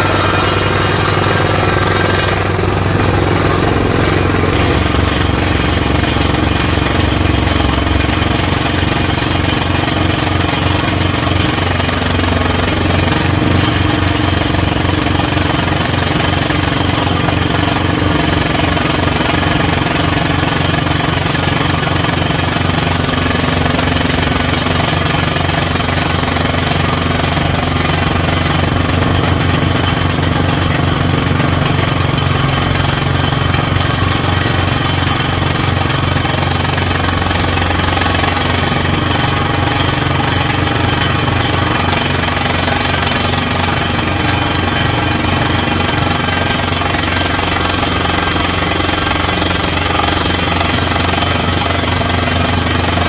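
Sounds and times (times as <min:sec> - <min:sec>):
drill hammering rapidly: 0:00.0 - 0:53.0
rig engine droning: 0:00.0 - 0:53.0.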